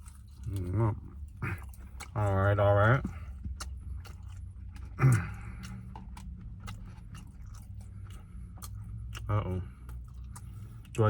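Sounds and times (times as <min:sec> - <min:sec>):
low steady hum: 0:00.0 - 0:11.0
person chewing food: 0:00.0 - 0:11.0.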